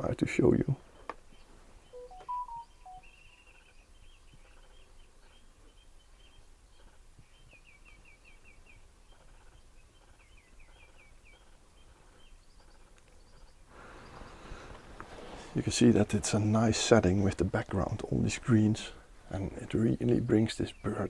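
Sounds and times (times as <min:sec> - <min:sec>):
birds chirping and trilling: 0:00.1 - 0:21.0.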